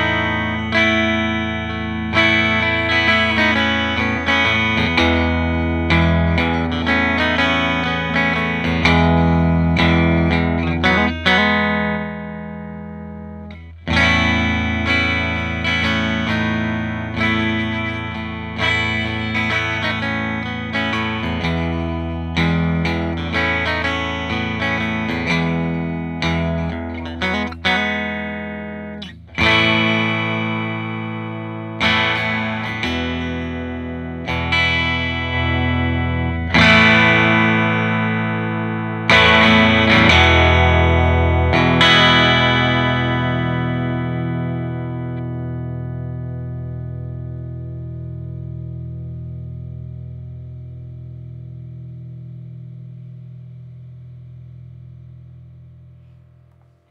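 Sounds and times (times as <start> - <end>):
electric guitar chords strummed: 0.0 - 56.9.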